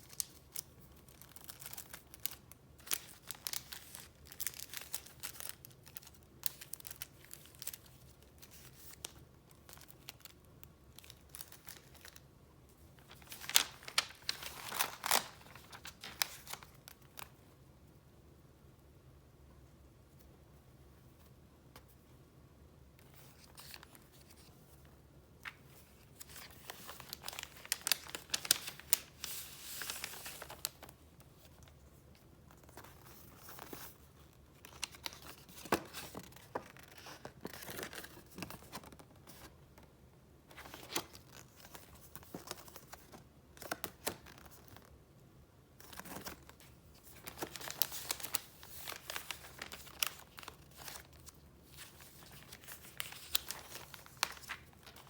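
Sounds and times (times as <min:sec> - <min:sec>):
paper rustling and crinkling: 0:00.0 - 0:12.2, 0:13.0 - 0:17.4, 0:23.0 - 0:39.9, 0:40.5 - 0:44.9, 0:45.8 - 0:55.0.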